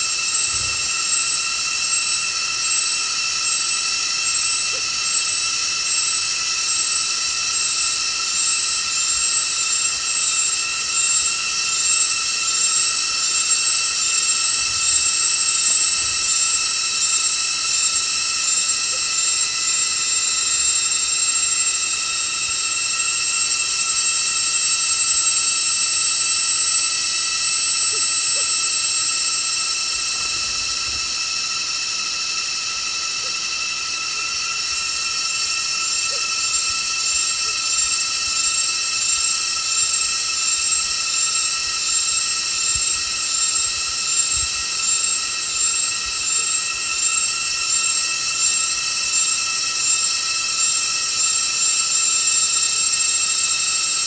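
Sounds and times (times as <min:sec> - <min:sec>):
forest insects chorus: 0:00.0 - 0:54.0.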